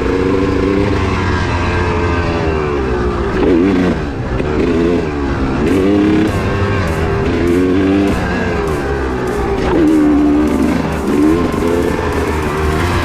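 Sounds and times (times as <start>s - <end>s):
background music with beat: 0.0s - 13.0s
dirt bike engine revving: 0.0s - 13.0s.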